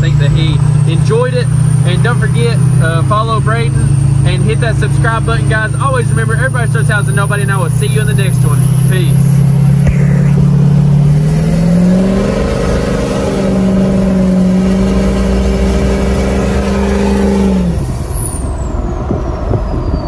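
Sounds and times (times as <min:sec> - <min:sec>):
truck engine from inside cab: 0:00.0 - 0:20.0.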